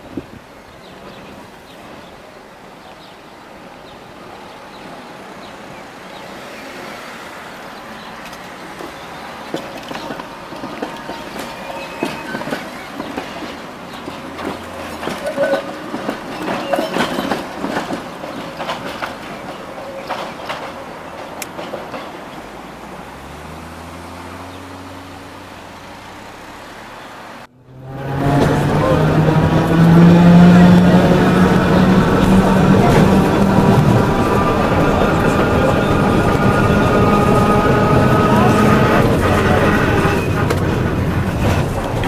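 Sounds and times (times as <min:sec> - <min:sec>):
tram rumbling on rails: 0:00.0 - 0:42.0
wheels clicking over rail joints: 0:03.0 - 0:27.4, 0:28.0 - 0:42.0
tram wheel squeals: 0:03.7 - 0:23.8, 0:27.8 - 0:42.0.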